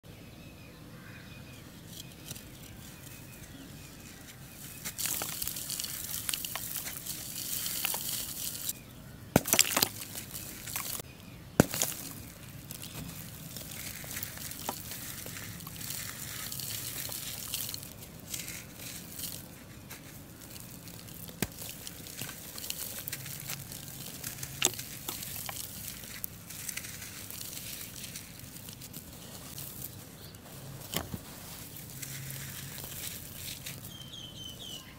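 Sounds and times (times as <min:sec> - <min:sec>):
charcoal crunching in hands: 0:01.9 - 0:34.9
charcoal powder pattering down: 0:02.2 - 0:08.8, 0:09.4 - 0:34.9
charcoal pieces snapping: 0:04.7 - 0:08.8, 0:09.4 - 0:34.0.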